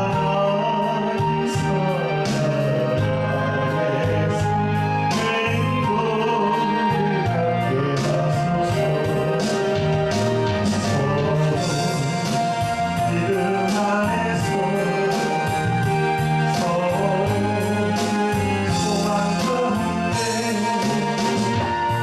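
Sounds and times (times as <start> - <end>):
gospel hymn singing with backing: 0.0 - 22.0.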